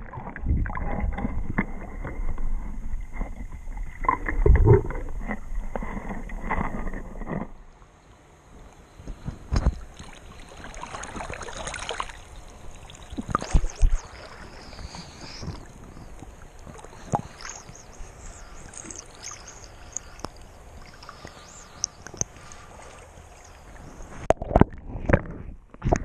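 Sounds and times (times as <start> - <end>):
water sloshing and splashing: 0.0 - 7.8, 8.6 - 26.0.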